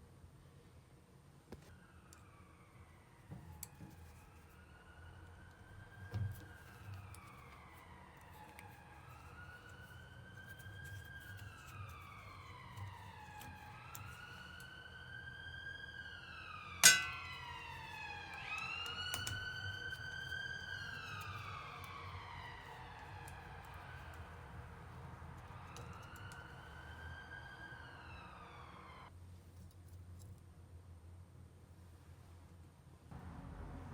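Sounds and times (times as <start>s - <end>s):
emergency sirens wailing: 1.7s - 29.1s.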